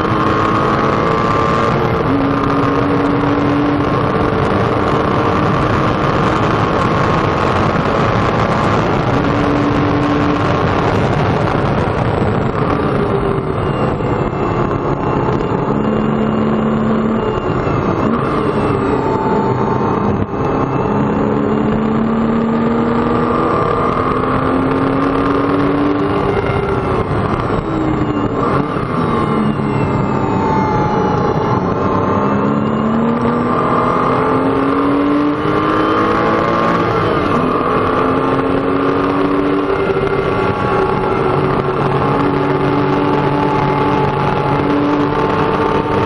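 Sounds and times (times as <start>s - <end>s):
car engine running hard: 0.0s - 46.0s
wind and road noise: 0.0s - 46.0s.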